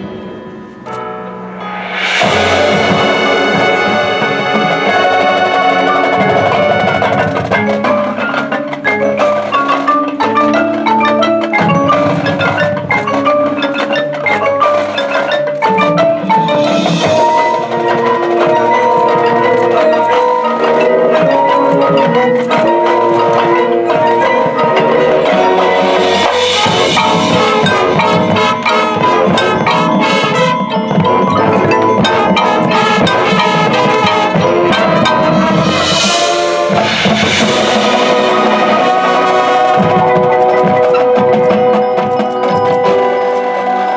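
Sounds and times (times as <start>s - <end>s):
mallet percussion passage: 0.0s - 43.9s
drums striking: 1.6s - 43.7s.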